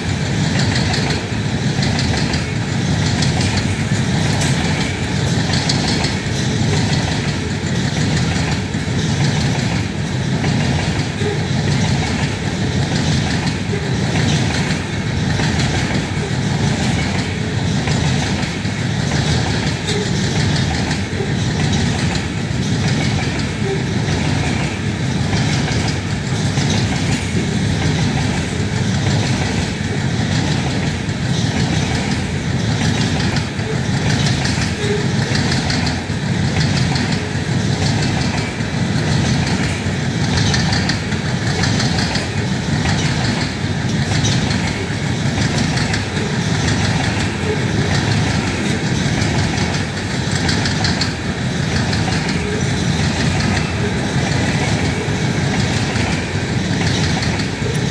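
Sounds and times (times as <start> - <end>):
train wheels rumbling on rail: 0.0 - 57.9
wheels clattering over rail joints: 0.0 - 57.9.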